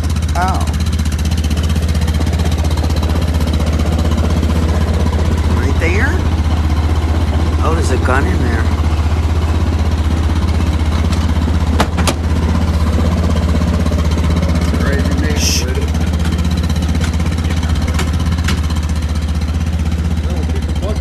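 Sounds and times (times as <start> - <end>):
utility vehicle engine idling: 0.0 - 21.0.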